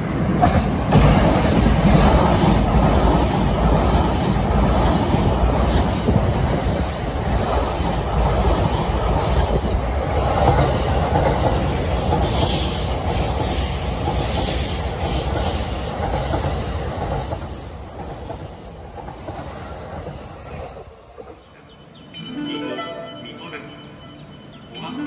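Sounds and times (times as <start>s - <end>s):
train wheels rolling on rail: 0.0s - 22.0s.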